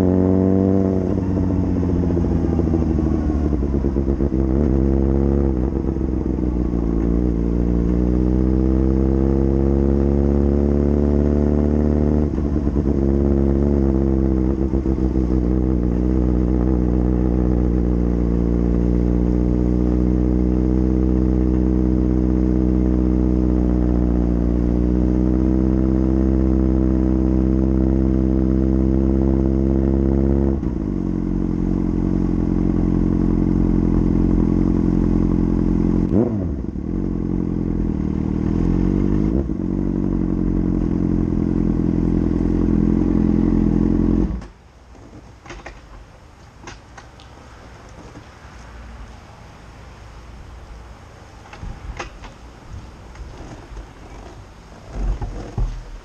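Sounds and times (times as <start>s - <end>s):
motorcycle engine running: 0.0s - 45.1s, 51.5s - 56.0s
motorcycle engine revving: 0.0s - 45.8s, 51.4s - 56.0s.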